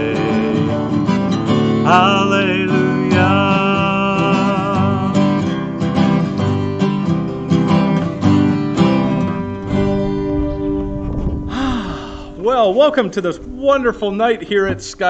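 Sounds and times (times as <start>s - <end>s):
acoustic guitar strumming: 0.0s - 14.8s.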